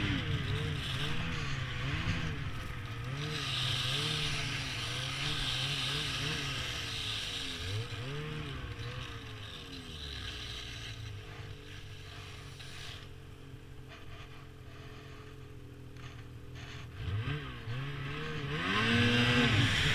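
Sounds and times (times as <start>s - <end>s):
snowmobile engine running: 0.0s - 19.9s.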